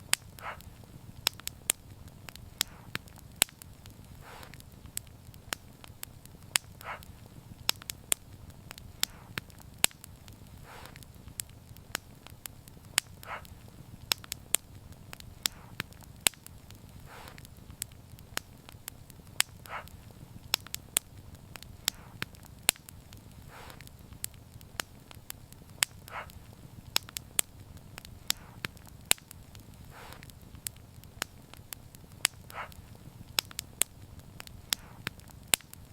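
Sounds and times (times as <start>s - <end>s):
soft hiss: 0.0s - 35.9s
wood fire crackling and popping: 0.0s - 35.9s.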